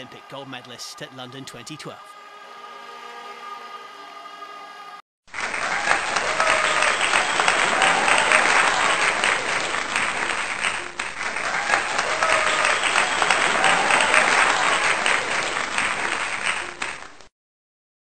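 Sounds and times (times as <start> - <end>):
loud applause: 0.0 - 2.6, 3.5 - 17.3.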